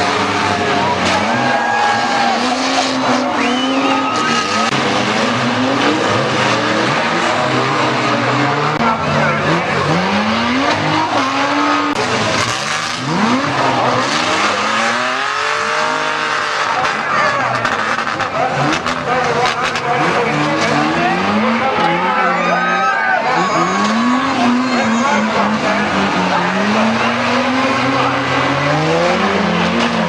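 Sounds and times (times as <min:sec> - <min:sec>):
racing car engines revving: 0:00.0 - 0:30.0
tyres skidding: 0:00.0 - 0:30.0.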